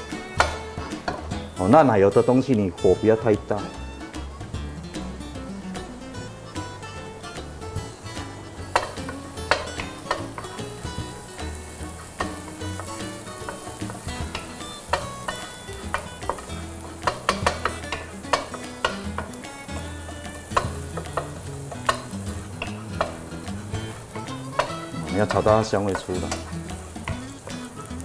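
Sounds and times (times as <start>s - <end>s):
garlic sizzling in butter: 0.0s - 28.0s.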